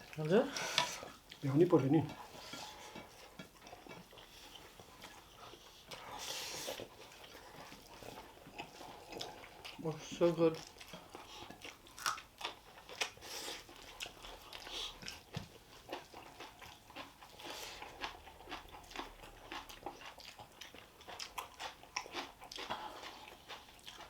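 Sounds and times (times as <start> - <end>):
people chewing food: 0.0 - 24.0.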